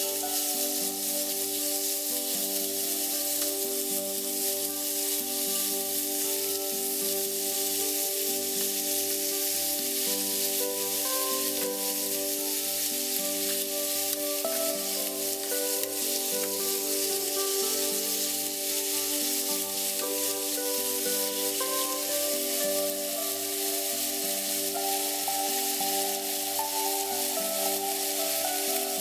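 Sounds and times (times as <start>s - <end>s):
background music with steady beat: 0.0s - 29.0s
bacon sizzling in a frying pan: 0.0s - 29.0s.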